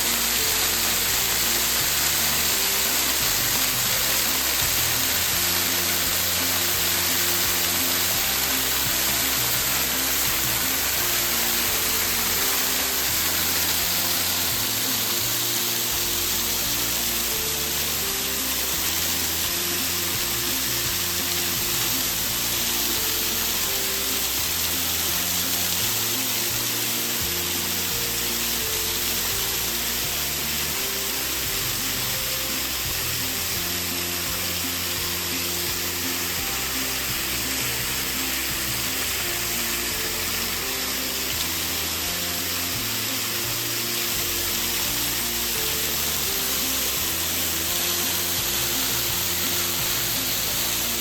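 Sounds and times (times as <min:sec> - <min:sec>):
music with slow low notes: 0:00.0 - 0:51.0
rush of falling water: 0:00.0 - 0:51.0.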